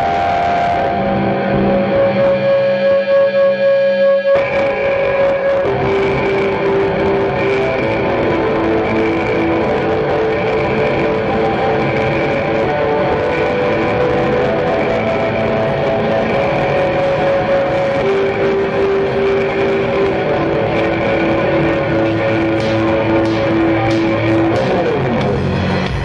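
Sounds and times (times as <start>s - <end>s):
electric guitar: 0.0s - 26.0s.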